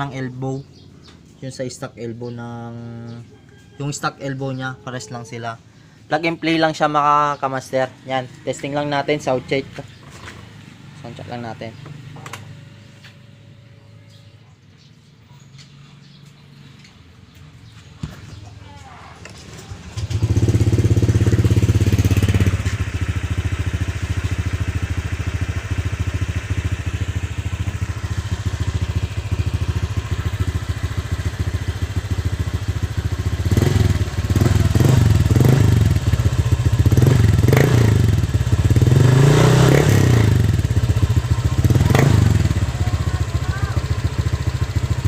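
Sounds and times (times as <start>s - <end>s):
scooter engine idling and revving: 0.0s - 3.2s, 3.8s - 45.0s.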